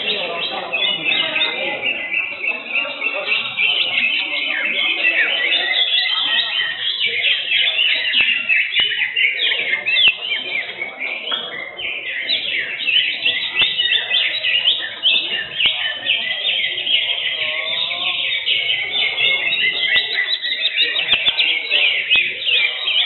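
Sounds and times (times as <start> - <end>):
birds chirping and trilling: 0.0 - 23.0
low crowd murmur: 0.0 - 23.0.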